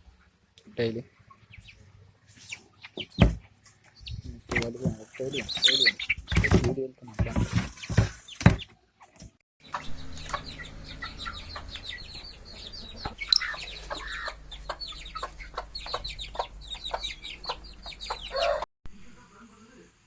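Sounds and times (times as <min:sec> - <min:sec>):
chicks peeping: 0:00.8 - 0:18.7.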